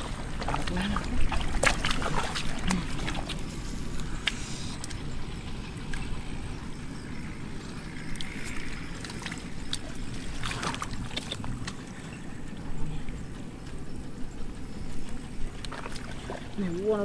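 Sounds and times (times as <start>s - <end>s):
muddy water sloshing: 0.0s - 17.0s.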